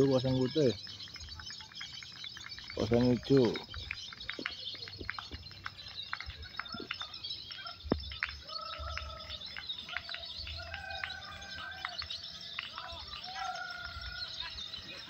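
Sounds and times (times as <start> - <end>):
drawn-out bird notes: 0.0 - 15.0
lovebirds chirping: 0.0 - 15.0.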